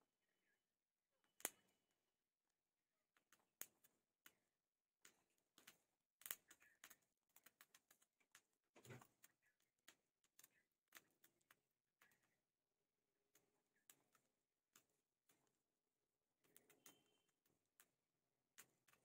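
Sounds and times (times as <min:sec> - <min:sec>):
rice grains popping: 0:01.2 - 0:01.9, 0:03.1 - 0:12.6, 0:13.2 - 0:19.0.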